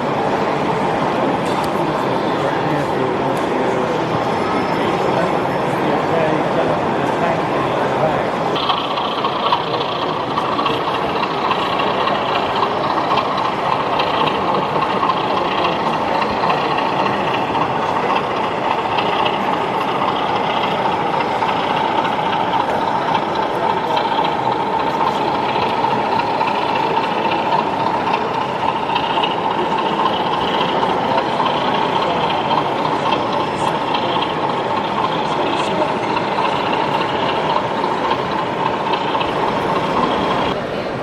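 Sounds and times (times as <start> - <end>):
model trains running: 0.0 - 41.0
murmur of many voices: 0.0 - 41.0.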